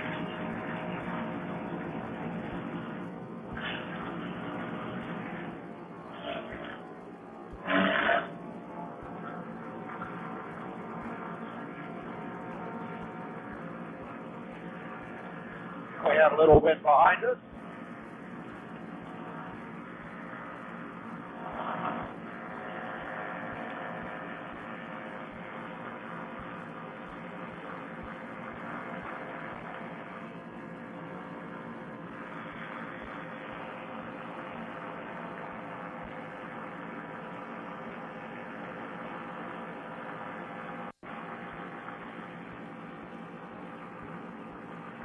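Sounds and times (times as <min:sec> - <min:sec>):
paramotor engine and propeller humming: 0:00.0 - 0:45.0.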